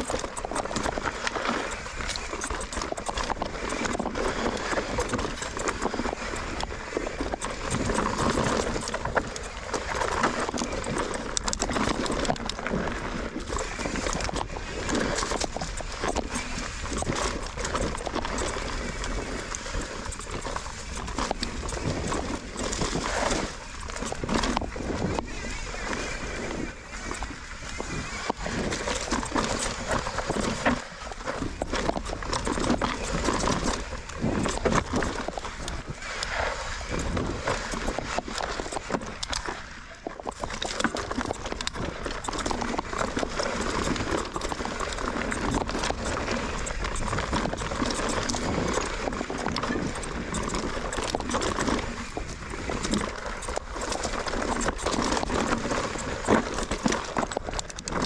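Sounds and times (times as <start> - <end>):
mountain bike rattling over rocks: 0.0 - 58.0
wind noise: 0.0 - 58.0.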